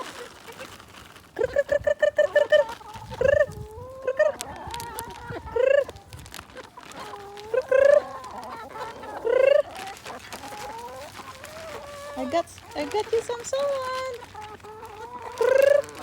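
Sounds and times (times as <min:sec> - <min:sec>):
chicken drawn-out calls: 0:00.0 - 0:16.0
chickens clucking: 0:00.0 - 0:16.0.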